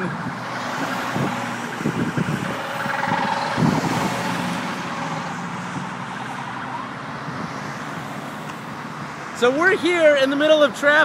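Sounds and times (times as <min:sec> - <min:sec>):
freeway traffic: 0:00.0 - 0:11.0.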